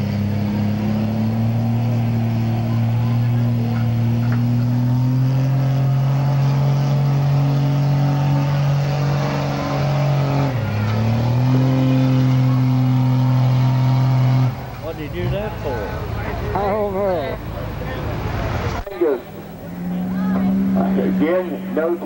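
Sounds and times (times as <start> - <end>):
diesel truck engine at high revs: 0.0 - 22.0.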